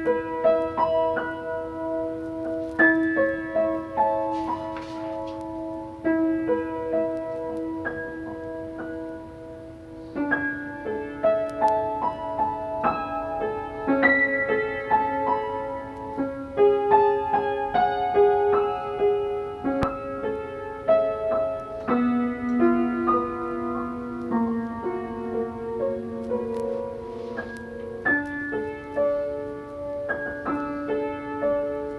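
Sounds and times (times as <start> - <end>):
slow piano melody: 0.0 - 31.9.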